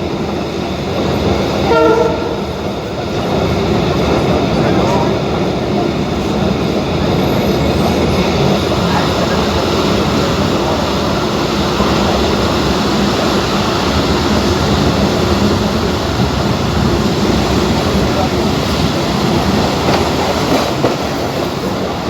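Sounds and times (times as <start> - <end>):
train wheels running on track: 0.0 - 22.0.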